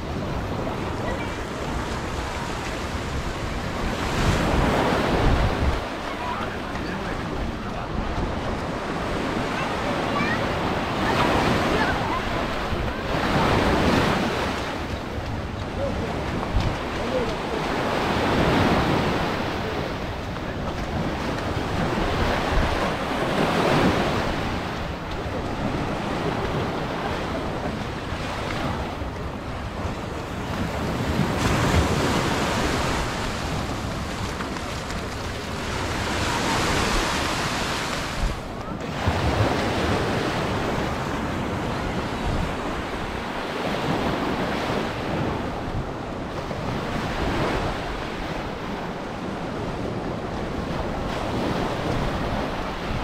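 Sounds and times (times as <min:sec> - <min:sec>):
sea waves breaking on beach: 0:00.0 - 0:53.0
wind buffeting microphone: 0:00.0 - 0:53.0.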